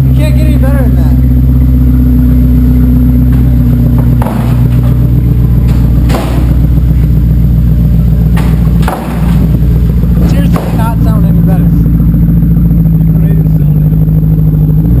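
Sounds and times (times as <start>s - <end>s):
car engine deep drone: 0.0s - 15.0s.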